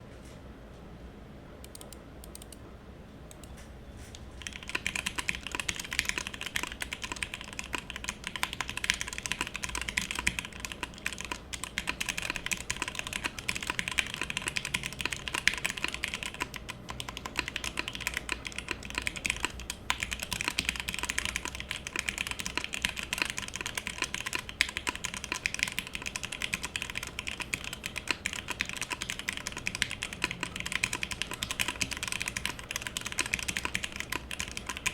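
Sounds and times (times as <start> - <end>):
fast typing on mechanical keyboard: 4.4 - 34.9.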